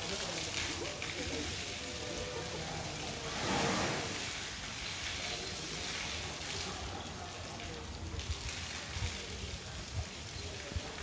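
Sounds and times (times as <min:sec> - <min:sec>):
rushing splashing water: 0:00.0 - 0:11.0.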